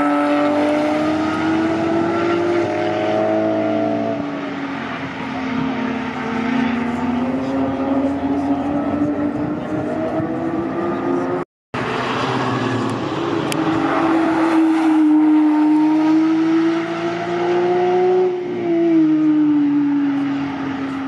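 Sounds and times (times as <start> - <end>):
sports car engine passing: 0.0 - 21.0.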